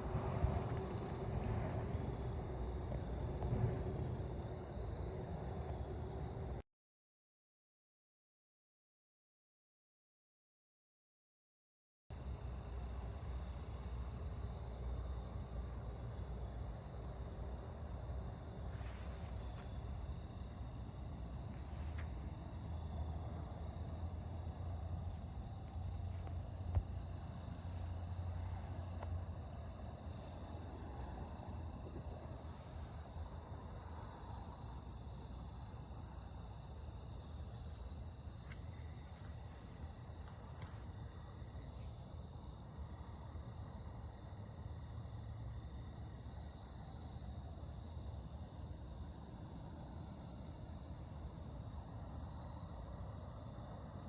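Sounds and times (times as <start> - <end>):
crickets chirping: 0.0 - 6.6, 12.1 - 54.0.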